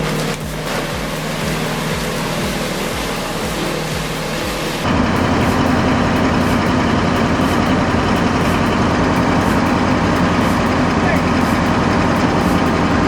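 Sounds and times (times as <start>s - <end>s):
heavy engine running: 0.0s - 13.0s
steady even noise: 0.0s - 13.0s.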